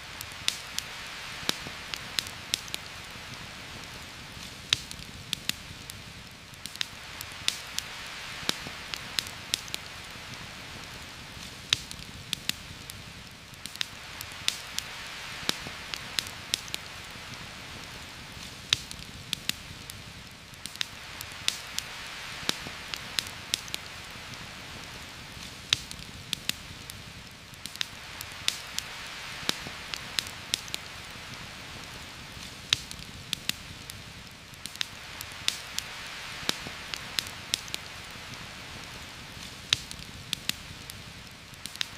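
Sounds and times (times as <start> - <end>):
campfire popping and crackling: 0.0 - 41.9
rain falling on leaves: 0.0 - 41.9.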